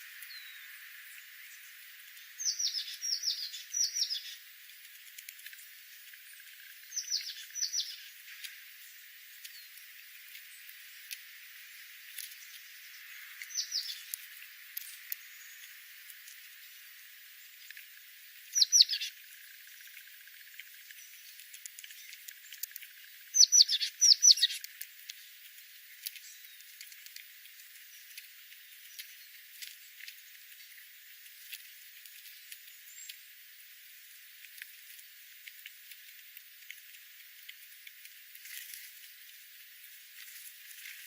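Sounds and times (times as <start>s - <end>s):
faint ticks: 0.0s - 41.0s
songbirds chirping: 0.0s - 41.0s.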